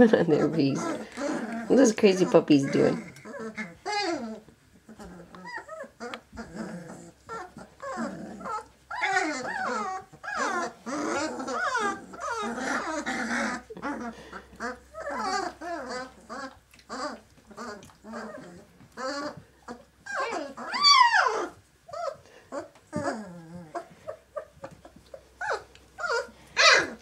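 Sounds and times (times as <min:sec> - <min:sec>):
puppies crying and yelping: 0:00.0 - 0:27.0.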